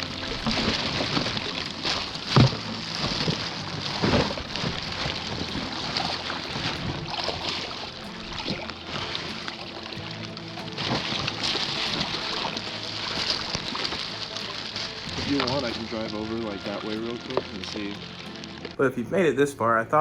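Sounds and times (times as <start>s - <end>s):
rain: 0.0s - 18.8s
water splashing against boat: 0.0s - 18.8s
wind: 0.0s - 20.0s.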